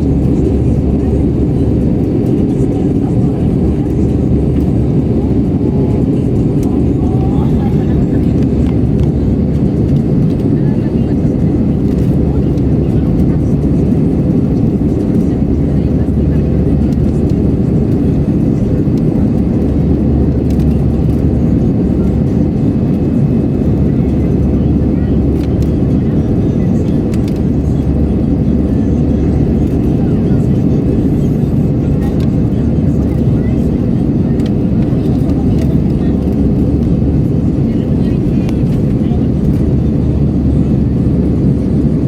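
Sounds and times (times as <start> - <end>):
jet engine cabin rumble: 0.0 - 42.0.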